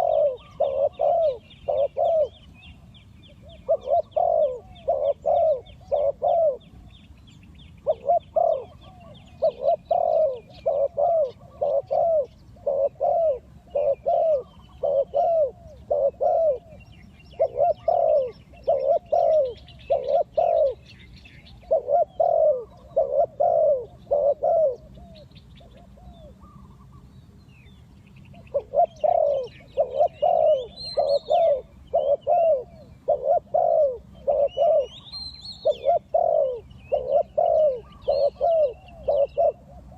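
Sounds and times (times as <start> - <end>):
dove cooing: 0.0 - 6.9, 7.8 - 27.1, 28.3 - 39.9
small birds chirping: 0.0 - 39.9.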